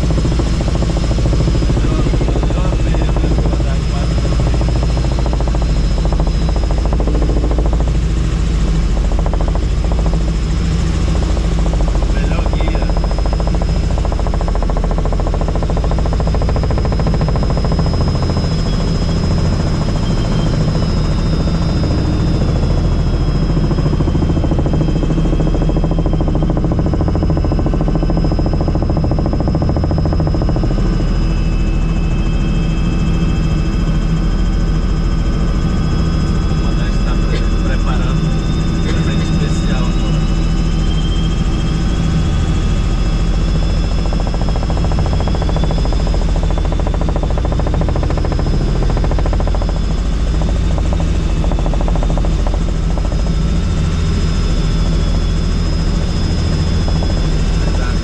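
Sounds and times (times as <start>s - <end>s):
helicopter rotor and engine rumble: 0.0s - 58.0s.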